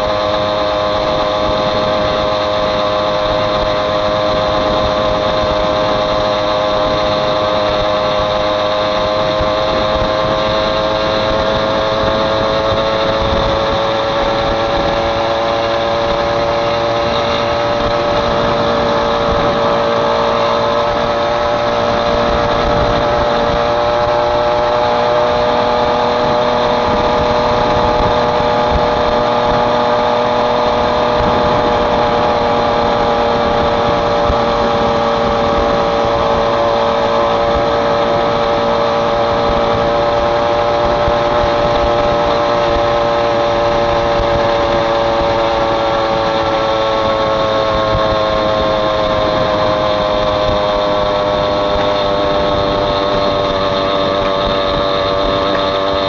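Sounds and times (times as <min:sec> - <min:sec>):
moped engine running: 0:00.0 - 0:56.0.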